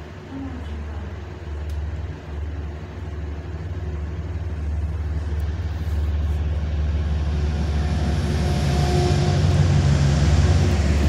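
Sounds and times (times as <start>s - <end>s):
locomotive engine drone: 0.0s - 11.0s.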